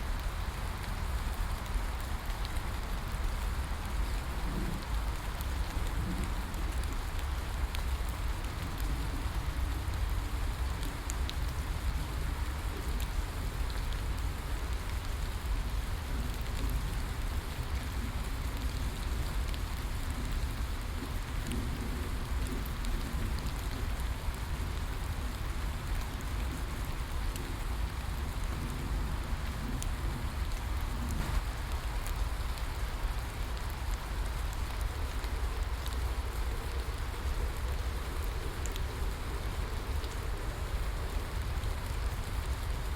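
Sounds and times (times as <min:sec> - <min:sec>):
rain hiss: 0:00.0 - 0:42.9
raindrop ticks: 0:00.2 - 0:42.9.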